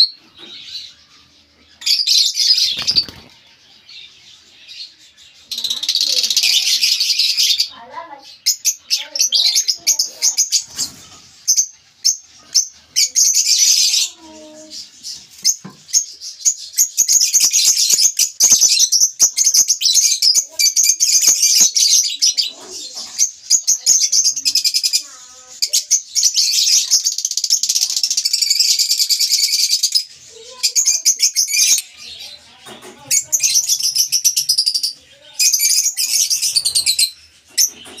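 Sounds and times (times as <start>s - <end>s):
lovebirds chattering: 0.0s - 38.0s.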